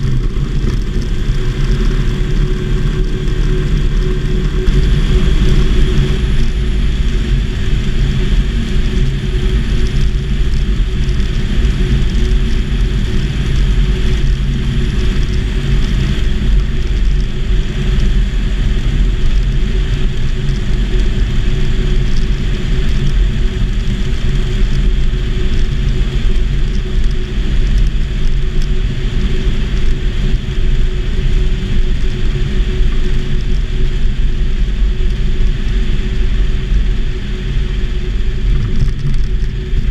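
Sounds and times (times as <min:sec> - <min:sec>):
light aircraft engine and propeller: 0:00.0 - 0:39.9
wind rush: 0:00.0 - 0:39.9.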